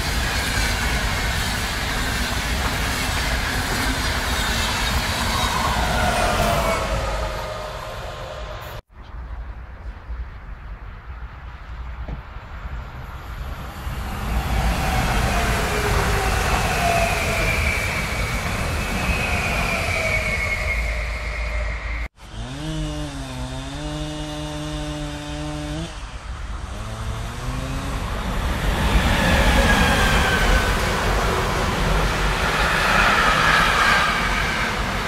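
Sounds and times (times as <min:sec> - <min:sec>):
freight train approaching: 0:00.0 - 0:08.9, 0:12.3 - 0:22.5, 0:25.9 - 0:35.0
train rumble with rail squeal: 0:00.0 - 0:22.2, 0:26.0 - 0:35.0.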